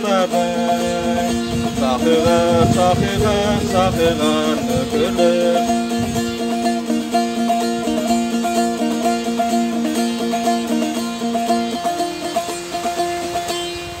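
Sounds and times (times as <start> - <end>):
plucked lute melody with drone: 0.0 - 14.0.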